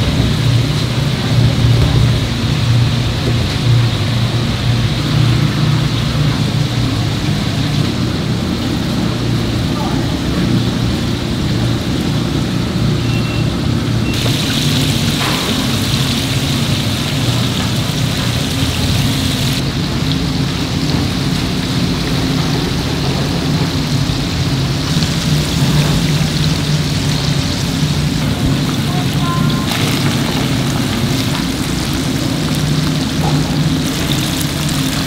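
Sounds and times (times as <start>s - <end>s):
oil sizzling in a deep fryer: 0.0s - 35.0s.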